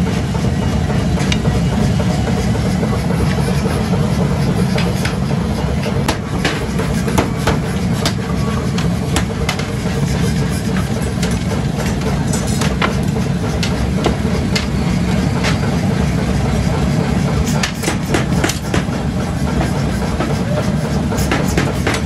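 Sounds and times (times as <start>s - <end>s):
forge furnace rumbling: 0.0s - 22.0s.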